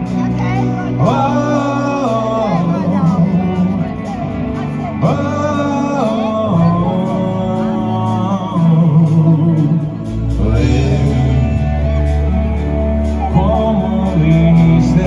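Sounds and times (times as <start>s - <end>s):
live rock band playing: 0.0s - 15.0s
sliding melodic guitar lead: 0.0s - 15.0s.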